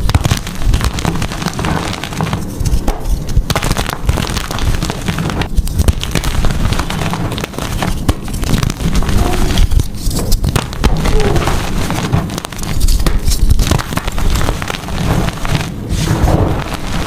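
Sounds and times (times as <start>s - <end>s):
chalk crunching and crackling: 0.0s - 17.0s.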